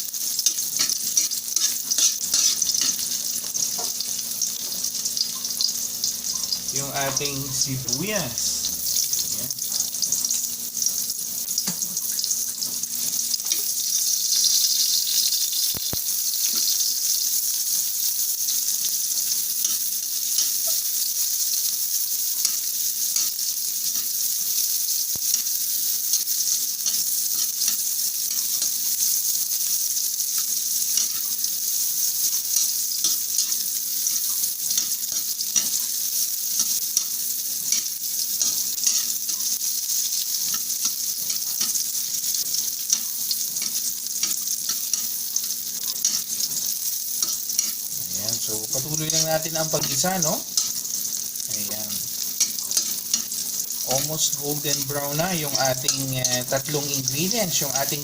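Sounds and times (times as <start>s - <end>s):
vegetables sizzling in a pan: 0.0s - 58.0s.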